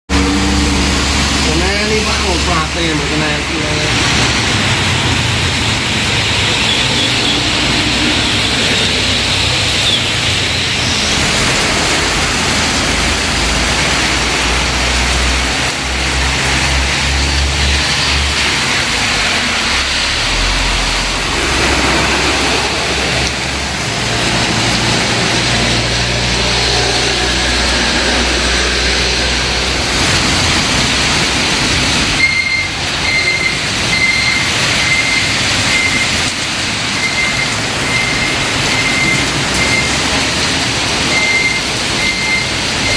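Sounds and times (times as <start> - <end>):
heavy rain rushing: 0.1 - 42.9.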